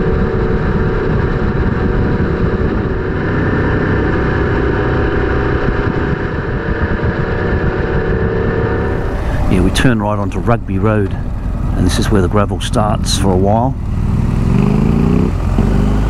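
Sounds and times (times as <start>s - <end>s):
wind noise: 0.0s - 13.7s
motorcycle engine cruising: 0.0s - 16.0s
road noise: 0.0s - 16.0s.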